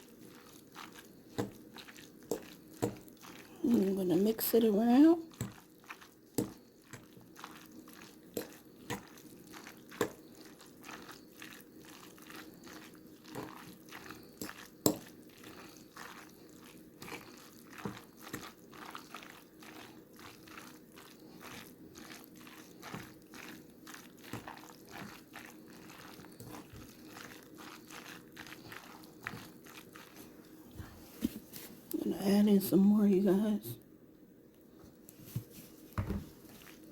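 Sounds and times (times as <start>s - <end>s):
wet squishing of stirred spaghetti: 0.0s - 32.1s, 34.9s - 36.9s.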